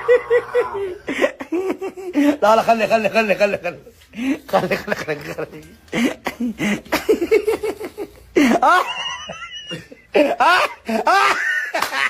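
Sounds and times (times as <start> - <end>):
people laughing hard: 0.0 - 12.0.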